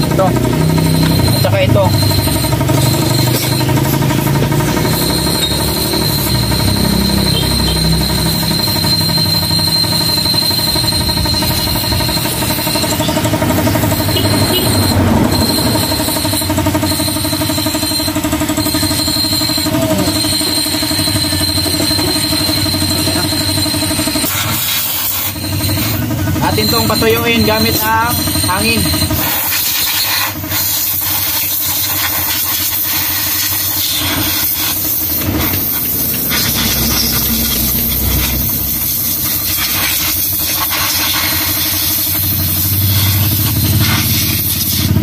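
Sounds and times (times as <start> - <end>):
high whine: 0.0 - 45.0
machine drone: 0.0 - 45.0.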